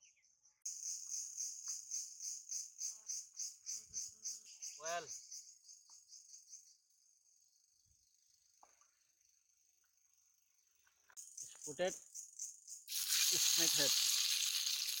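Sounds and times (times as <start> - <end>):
insects chirping: 0.1 - 15.0.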